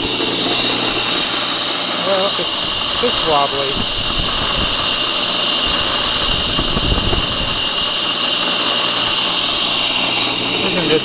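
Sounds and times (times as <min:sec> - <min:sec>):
table saw whirring with vibration: 0:00.0 - 0:11.0.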